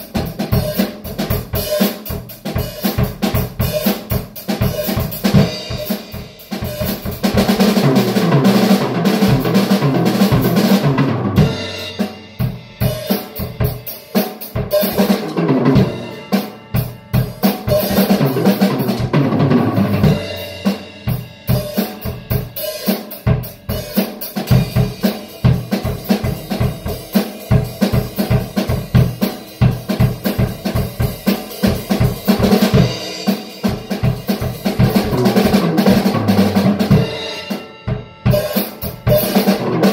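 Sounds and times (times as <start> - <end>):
bass drum: 0.0 - 13.9, 14.5 - 22.6, 23.2 - 39.9
snare and tom fills: 0.0 - 39.9.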